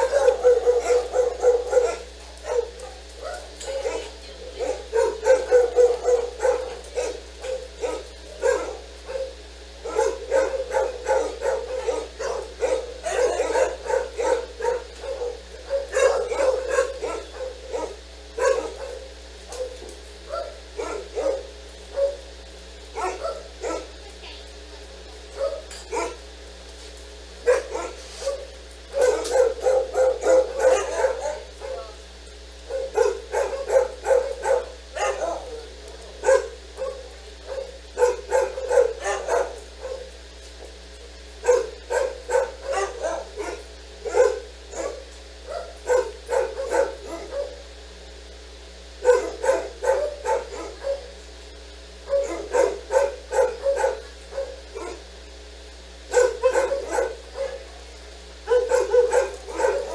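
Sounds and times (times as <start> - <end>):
dog barking: 0.0 - 24.4, 25.3 - 26.3, 27.4 - 40.2, 40.8 - 47.8, 48.8 - 51.2, 51.8 - 55.2, 56.0 - 59.9.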